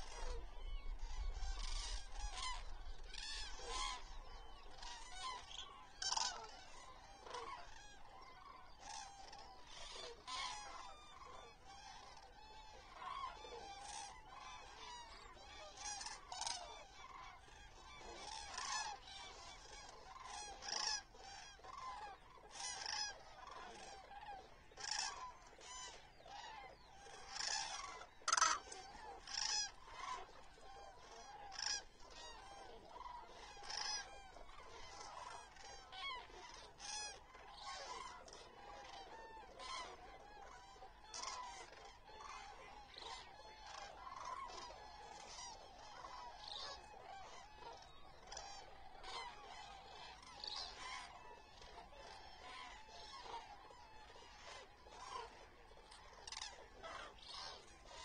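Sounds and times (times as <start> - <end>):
cranes trumpeting calls: 0.0 - 58.0.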